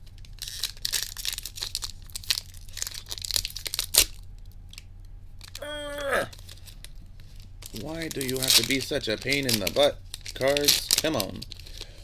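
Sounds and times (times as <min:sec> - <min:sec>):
foil wrapper tearing and crinkling: 0:00.1 - 0:04.8, 0:06.3 - 0:12.0.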